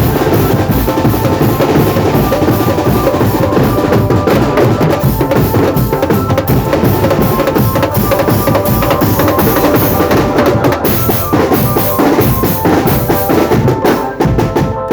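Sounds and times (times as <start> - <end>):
bass drums: 0.0 - 14.9
pitched melody line: 0.0 - 14.9
snare drums: 0.0 - 14.9.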